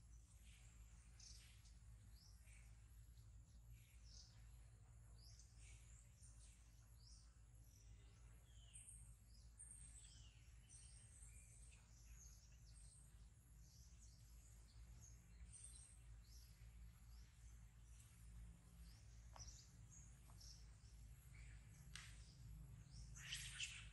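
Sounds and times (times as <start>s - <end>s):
faint bird chirps: 0.0s - 23.9s
low steady hum: 0.0s - 23.9s.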